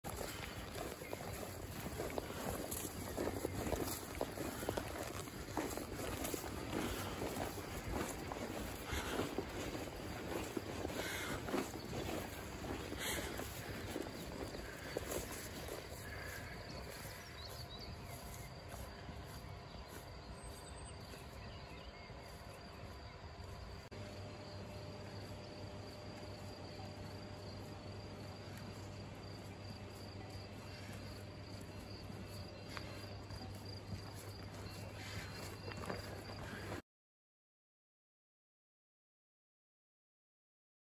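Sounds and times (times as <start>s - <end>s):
insects chirping: 0.1s - 36.8s.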